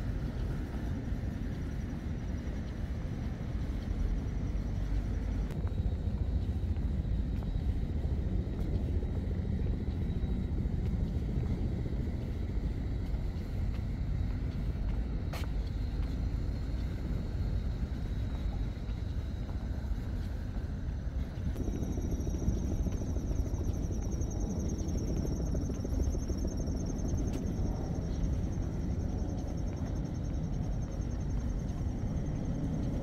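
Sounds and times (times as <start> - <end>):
urban ambience rumble: 0.0 - 33.0.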